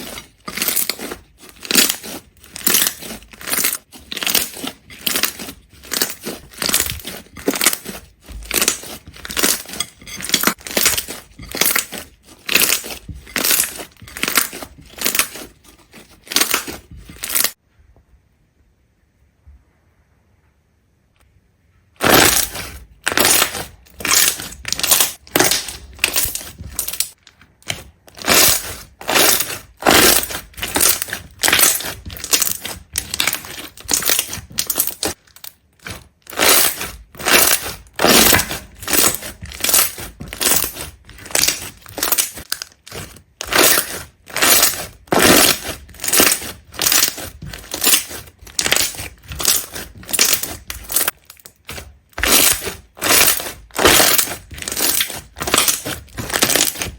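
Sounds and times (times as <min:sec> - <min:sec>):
brittle crunches: 0:00.0 - 0:17.6, 0:22.0 - 0:56.9.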